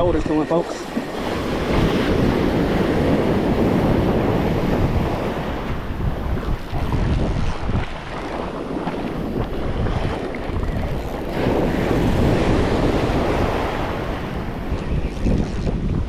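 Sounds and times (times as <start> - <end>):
ocean surf: 0.0 - 15.1
wave breaking: 0.0 - 15.8
wind buffeting microphone: 0.0 - 16.0.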